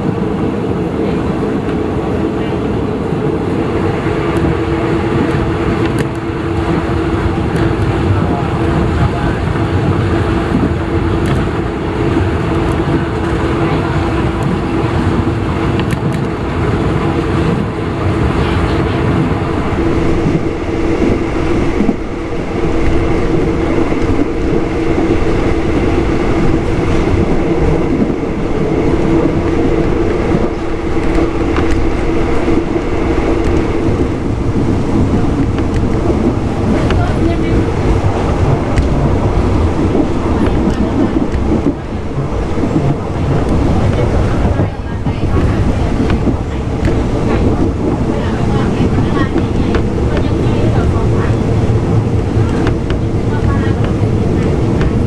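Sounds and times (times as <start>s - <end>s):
continuous hum: 0.0s - 55.0s
train wheels rumbling on rails: 0.0s - 55.0s.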